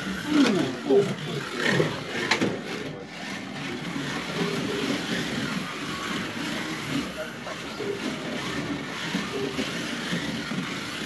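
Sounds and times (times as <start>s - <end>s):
faint voices: 0.0s - 10.4s
slot car motors whining: 0.0s - 11.0s.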